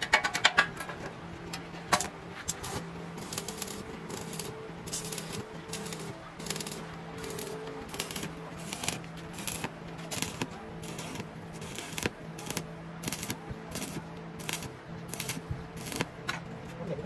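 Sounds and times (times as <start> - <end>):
arc welding crackling: 0.0 - 17.0
welding machine hum: 0.0 - 17.0.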